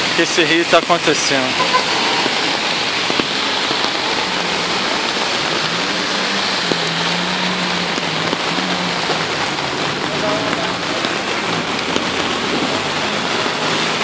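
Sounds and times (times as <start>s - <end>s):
floodwater rushing: 0.0s - 14.0s
heavy rain pouring: 0.0s - 14.0s.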